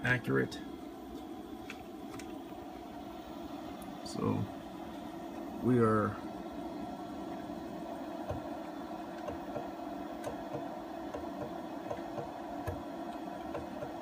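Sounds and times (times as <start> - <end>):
stepper motors humming: 0.3 - 14.0.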